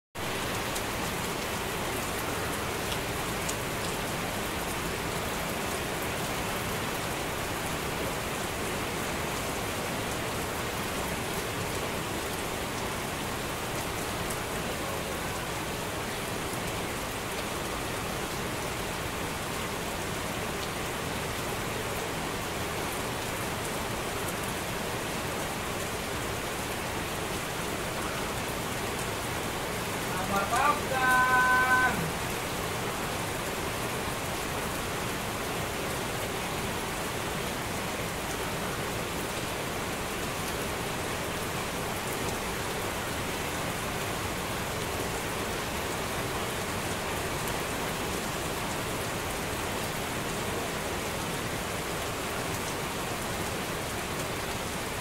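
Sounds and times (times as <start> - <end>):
heavy rain on leaves and concrete: 0.2 - 55.0.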